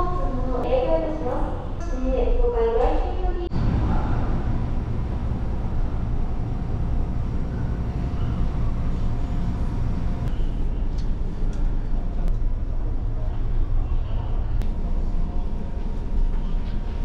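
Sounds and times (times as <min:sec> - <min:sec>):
faint steady hum: 0:00.0 - 0:17.0
ferry engine rumble: 0:02.5 - 0:17.0.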